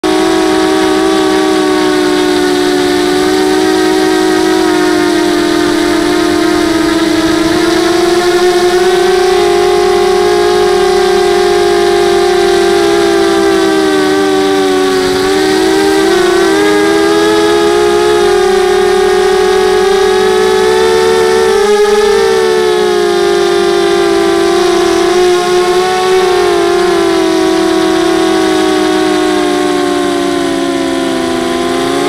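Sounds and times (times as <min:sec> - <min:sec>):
quadcopter motors whining: 0:00.0 - 0:32.0.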